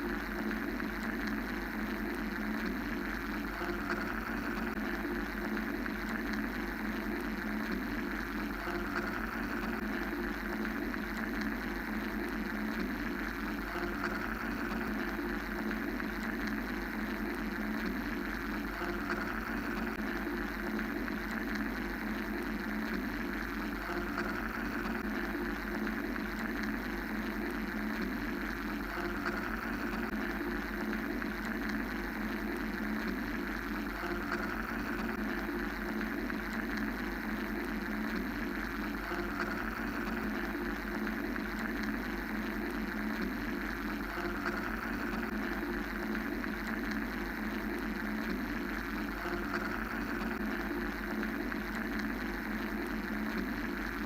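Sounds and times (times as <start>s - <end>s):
mechanical white-noise drone: 0.0s - 54.0s.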